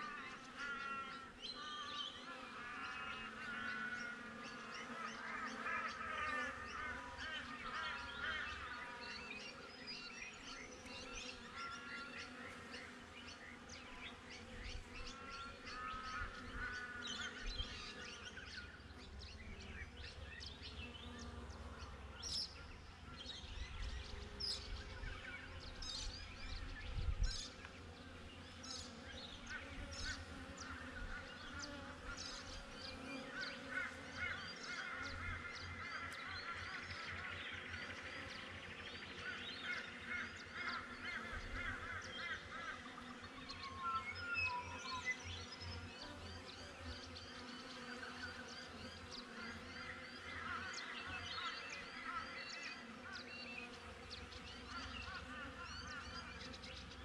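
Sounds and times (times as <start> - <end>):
small birds chirping: 4.0 - 57.0.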